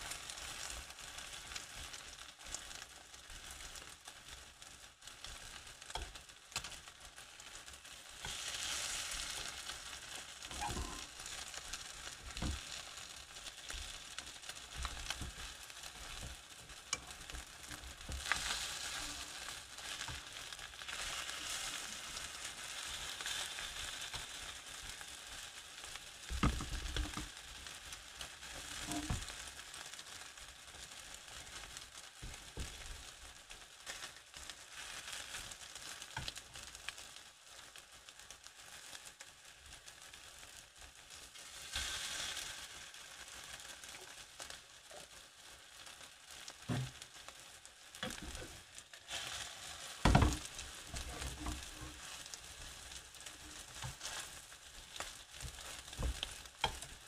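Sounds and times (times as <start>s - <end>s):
sausage sizzling in oil: 0.0s - 57.0s.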